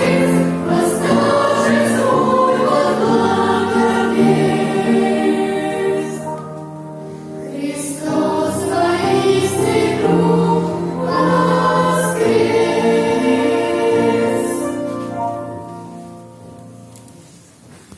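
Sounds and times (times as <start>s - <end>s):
children's choir singing: 0.0s - 6.5s, 7.4s - 15.6s.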